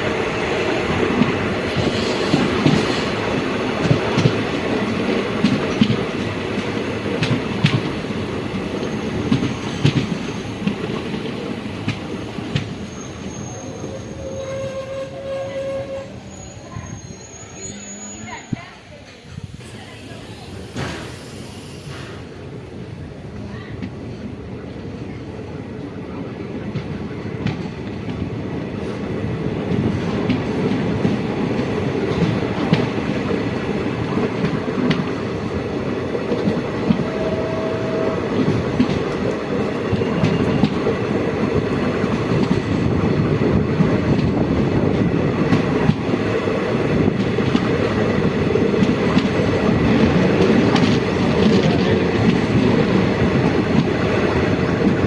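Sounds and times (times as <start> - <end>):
train wheels clacking on rails: 0.0 - 16.0, 26.6 - 55.0.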